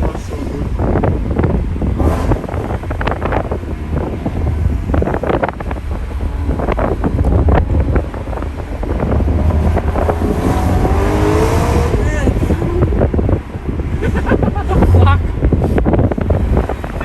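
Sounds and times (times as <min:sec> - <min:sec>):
car engine deep rumble: 0:00.0 - 0:17.0
wind and road noise: 0:00.0 - 0:17.0.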